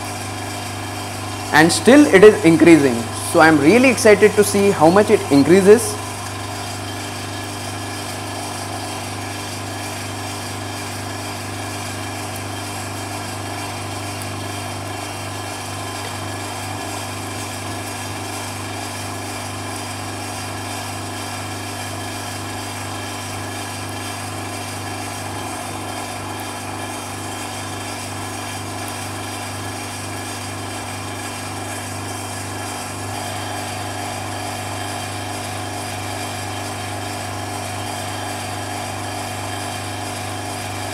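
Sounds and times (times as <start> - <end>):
vacuum pump motor humming: 0.0 - 40.9.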